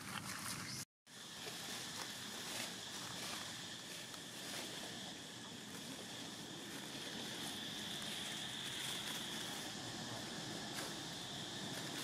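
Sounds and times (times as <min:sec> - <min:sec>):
high-pitched insect drone: 0:01.1 - 0:12.0.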